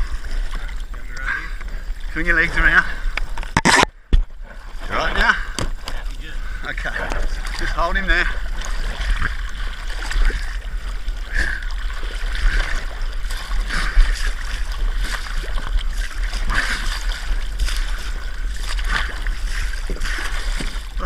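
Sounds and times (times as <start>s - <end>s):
steady low rumble: 0.0s - 21.0s
water splashing around kayak hull: 0.0s - 21.0s.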